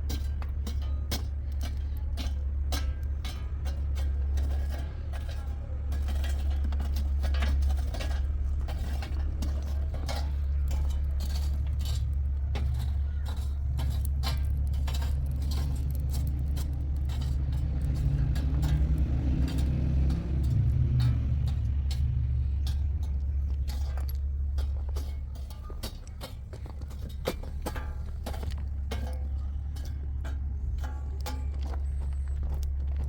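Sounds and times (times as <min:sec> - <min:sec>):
light clinks and rattles: 0:00.0 - 0:33.0
vehicle engine droning: 0:00.0 - 0:33.0.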